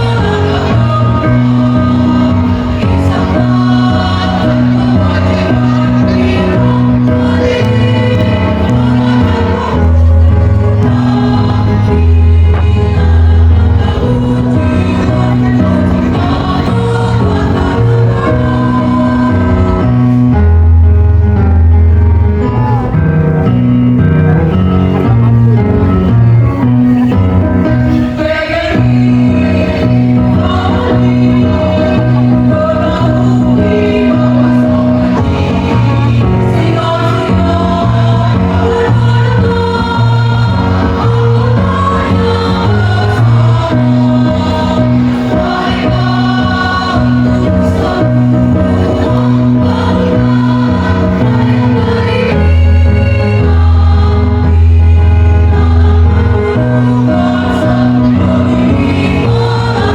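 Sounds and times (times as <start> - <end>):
choir singing: 0.0 - 20.7, 27.4 - 59.9
music accompaniment with bass line: 0.0 - 59.9.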